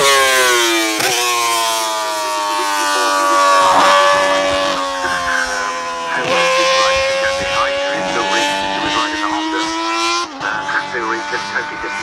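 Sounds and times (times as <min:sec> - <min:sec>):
racing motorcycle engine: 0:00.0 - 0:12.0.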